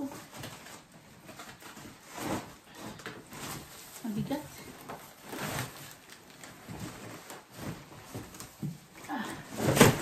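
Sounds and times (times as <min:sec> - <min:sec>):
cardboard and plastic rustling: 0:00.0 - 0:10.0.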